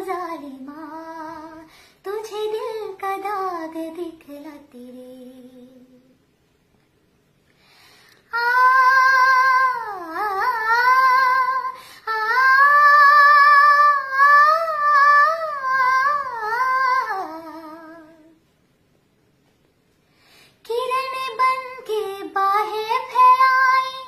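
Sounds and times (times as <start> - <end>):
woman singing wordless melody: 0.0 - 6.2, 8.3 - 18.4, 20.6 - 24.0.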